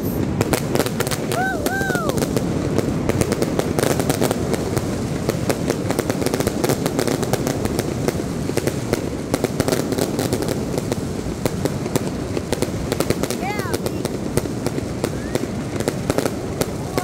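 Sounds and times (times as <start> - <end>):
fireworks crackling and popping: 0.0 - 17.0.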